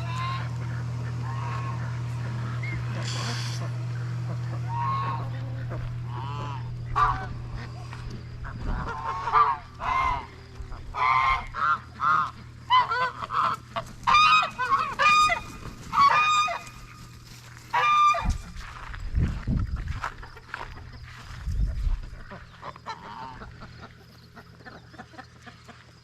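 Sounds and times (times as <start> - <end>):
geese honking: 0.0 - 18.8, 20.2 - 26.0.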